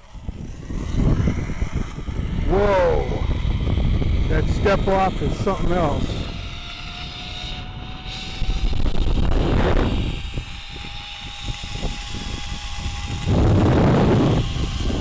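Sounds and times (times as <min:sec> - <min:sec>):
wind rushing over microphone: 0:00.0 - 0:15.0
zipline trolley whirring on cable: 0:00.0 - 0:15.0.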